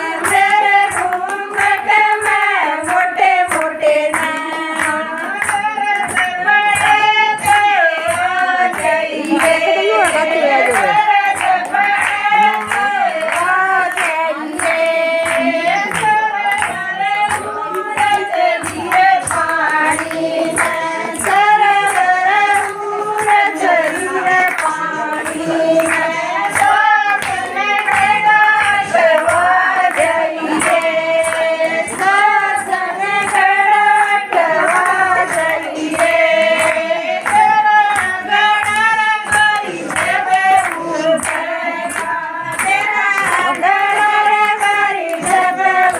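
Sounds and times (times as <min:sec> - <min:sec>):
hand clapping: 0:00.0 - 0:45.9
women singing folk song: 0:00.0 - 0:45.9.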